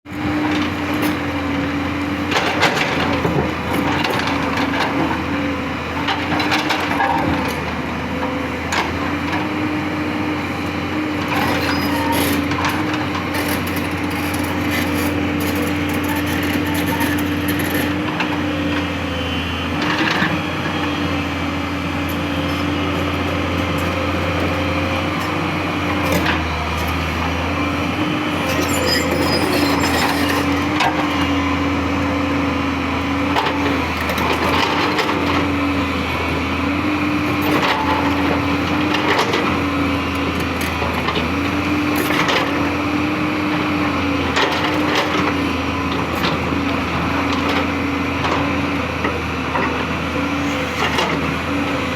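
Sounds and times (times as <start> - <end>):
diesel engine under load: 0.1 - 51.9.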